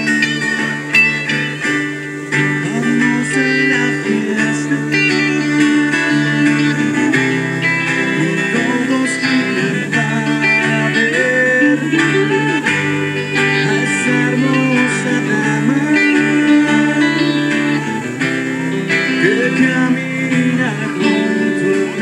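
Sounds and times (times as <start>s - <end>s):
saxophone melody: 0.0s - 8.4s, 9.1s - 22.0s
acoustic guitar: 0.0s - 22.0s.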